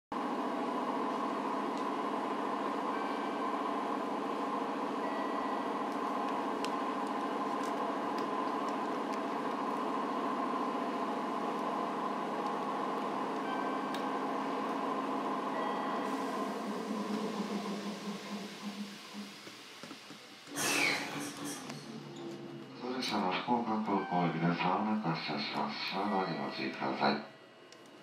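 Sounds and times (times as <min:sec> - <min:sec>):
electric train equipment humming: 0:00.2 - 0:28.0.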